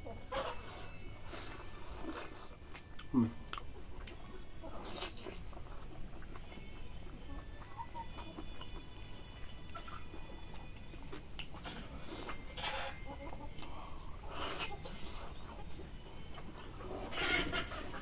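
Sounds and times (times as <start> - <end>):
chickens clucking: 0.0 - 18.0
person chewing food: 0.1 - 9.1, 9.7 - 17.8.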